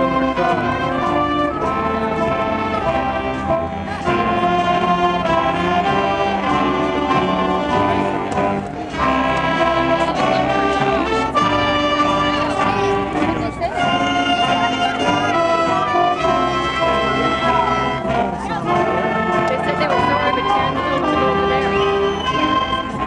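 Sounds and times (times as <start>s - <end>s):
band playing processional music: 0.0s - 23.0s.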